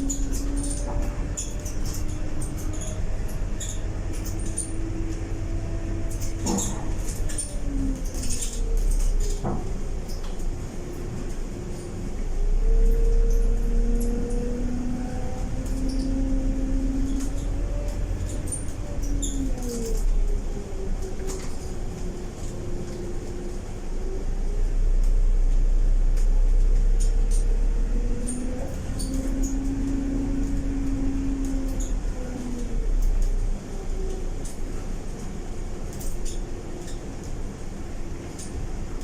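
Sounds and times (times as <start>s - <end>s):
bus drivetrain rumble: 0.0s - 39.0s
engine and transmission whine: 0.0s - 39.0s.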